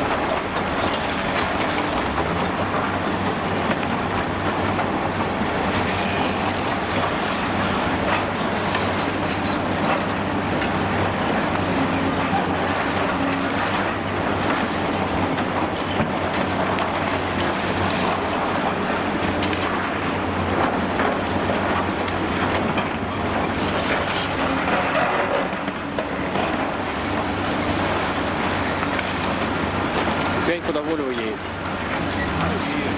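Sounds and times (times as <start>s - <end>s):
concrete crunching and clattering: 0.0s - 32.9s
diesel engine running: 0.0s - 32.9s.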